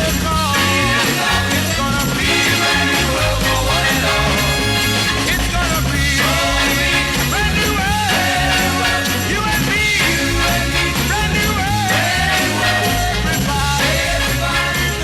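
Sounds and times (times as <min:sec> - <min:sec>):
up-tempo band music: 0:00.0 - 0:15.0.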